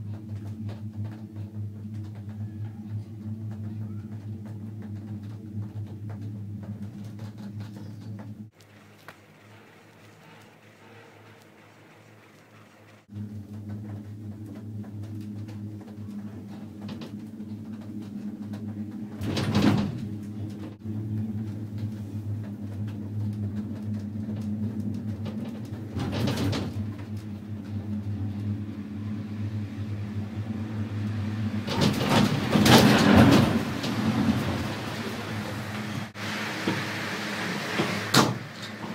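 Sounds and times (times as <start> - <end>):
gondola cabin clatter: 0.0 - 38.9
gondola cabin hum: 0.0 - 38.9.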